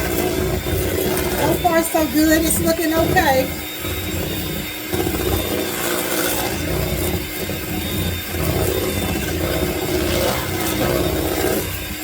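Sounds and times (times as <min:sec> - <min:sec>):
electric mixer running: 0:00.0 - 0:12.0.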